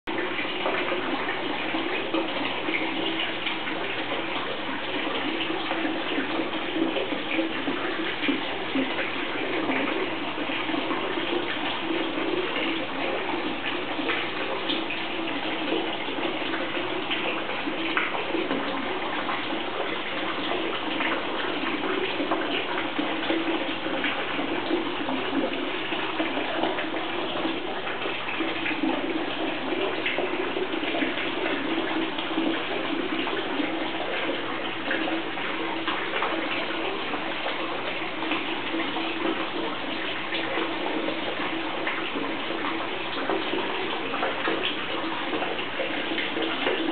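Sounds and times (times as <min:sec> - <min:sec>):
aquarium water bubbling: 0:00.1 - 0:46.9.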